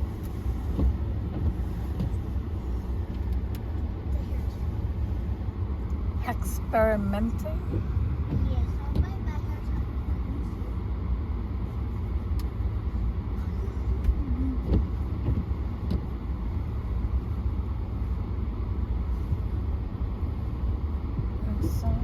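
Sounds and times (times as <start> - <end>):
car engine rumble: 0.0 - 22.0
tyres on snowy road: 0.0 - 22.0.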